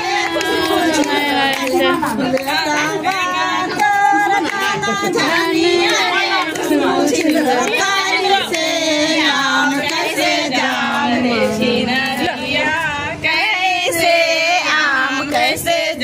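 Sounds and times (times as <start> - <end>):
women singing together: 0.0 - 16.0.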